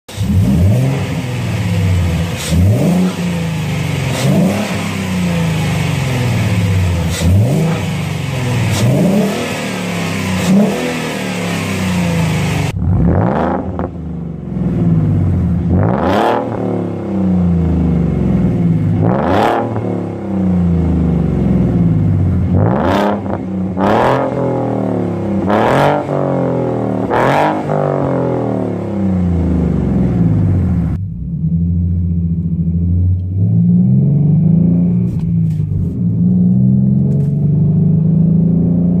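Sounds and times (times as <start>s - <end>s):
car engine revving: 0.1s - 39.0s.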